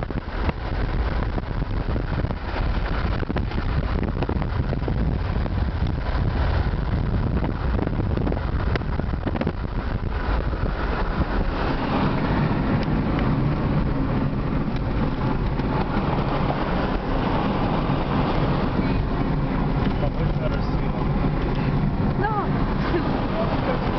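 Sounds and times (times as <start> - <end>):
low engine drone: 0.0 - 23.9
tyre and wind rush: 0.0 - 23.9.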